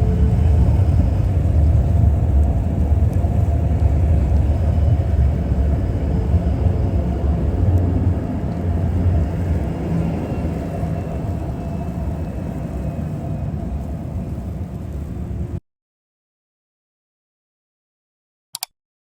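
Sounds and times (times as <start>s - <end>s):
light-rail train rumbling: 0.0s - 15.6s.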